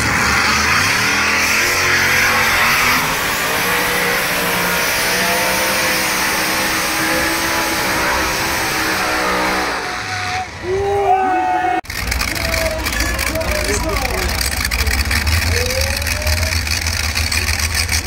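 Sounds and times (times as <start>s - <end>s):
pulling tractor engine at full throttle: 0.0s - 10.6s, 11.8s - 18.0s.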